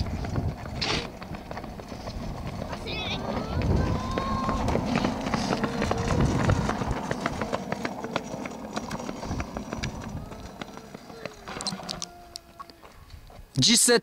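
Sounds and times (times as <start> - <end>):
pushcar wheels rattling: 0.0 - 12.6
running footsteps on asphalt: 0.0 - 13.6.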